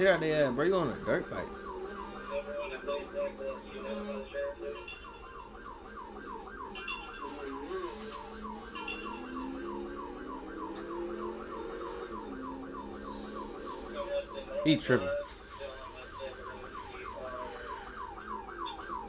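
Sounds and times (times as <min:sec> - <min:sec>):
police siren yelp: 0:00.0 - 0:19.0.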